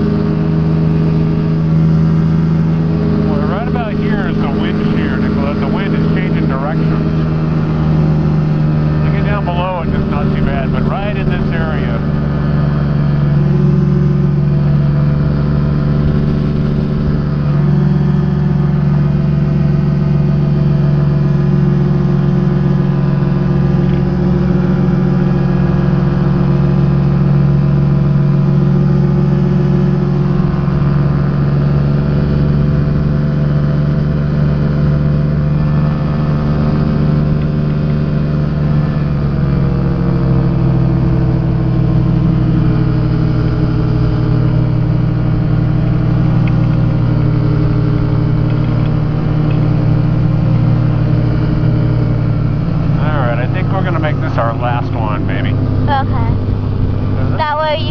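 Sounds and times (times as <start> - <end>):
aircraft engine running: 0.0 - 57.9.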